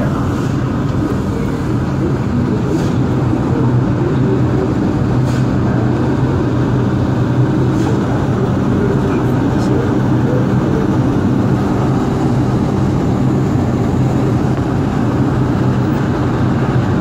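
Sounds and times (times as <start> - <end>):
station noise: 0.0 - 17.0
subway train low hum: 0.0 - 17.0.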